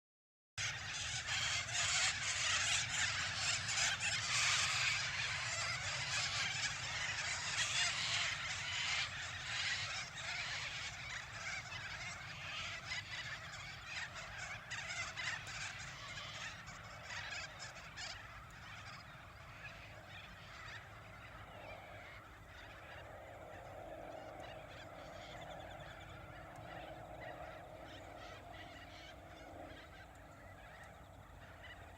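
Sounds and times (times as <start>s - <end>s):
flock of birds calling: 0.6s - 31.9s.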